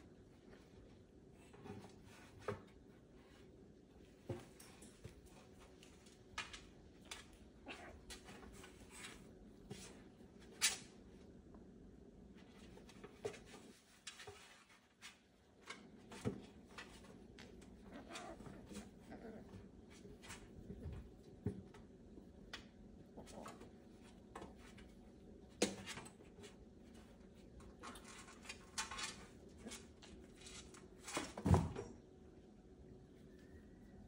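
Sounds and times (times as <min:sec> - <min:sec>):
kittens scuffling: 0:00.1 - 0:11.4, 0:12.2 - 0:32.0.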